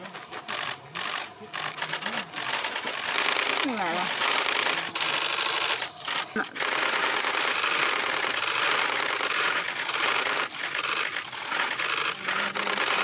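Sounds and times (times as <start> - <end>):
camera shutters firing rapidly: 0.4 - 13.0.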